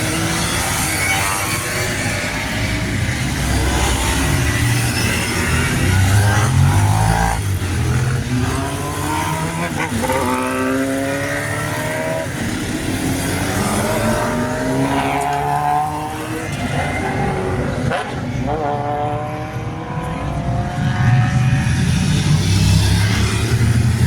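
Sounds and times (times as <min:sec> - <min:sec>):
racing motorcycles accelerating past: 0:00.0 - 0:24.0.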